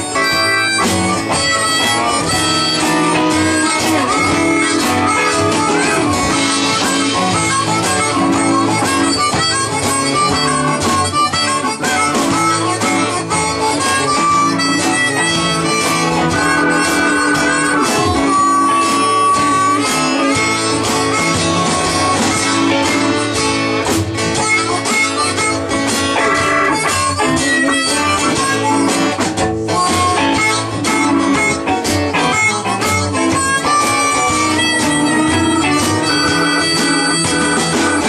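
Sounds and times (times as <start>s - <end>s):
blues band playing: 0.0s - 38.0s
electric guitar: 0.0s - 38.0s
harmonica bending notes: 0.0s - 38.0s.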